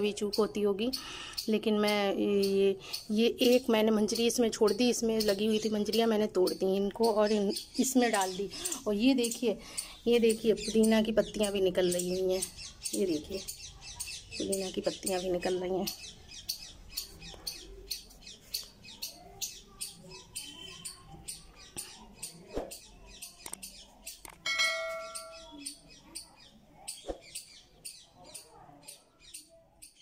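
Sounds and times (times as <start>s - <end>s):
squirrel chirping: 0.0s - 30.0s.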